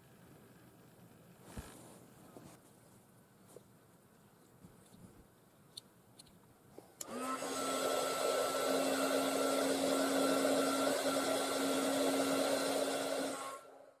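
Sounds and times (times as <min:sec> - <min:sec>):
hot-air blower fan humming: 0:00.0 - 0:03.9, 0:06.5 - 0:14.0.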